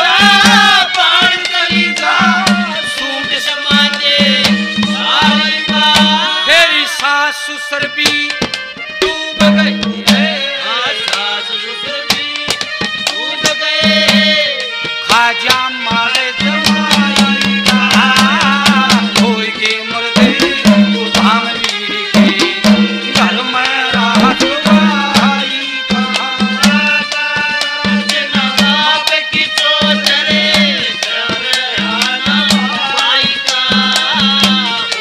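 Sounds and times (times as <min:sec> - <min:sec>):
rapid hand-drum strokes: 0:00.0 - 0:07.1, 0:07.8 - 0:10.5, 0:12.0 - 0:35.0.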